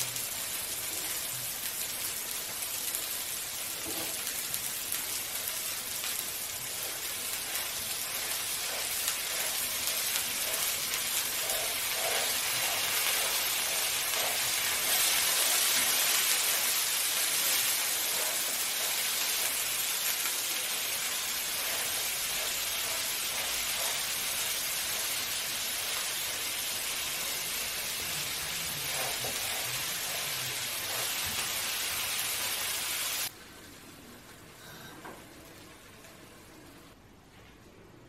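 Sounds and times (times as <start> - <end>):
meat sizzling in oil: 0.0 - 33.3.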